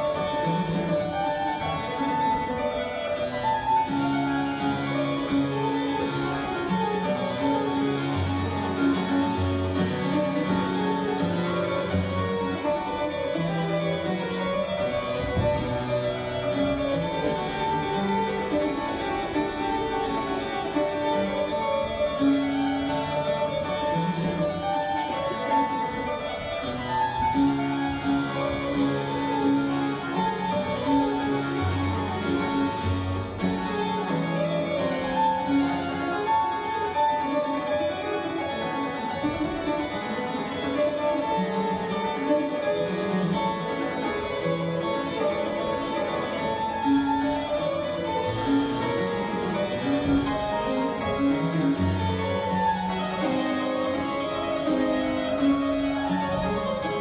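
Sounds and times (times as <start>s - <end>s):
solo harpsichord playing: 0.0s - 57.0s.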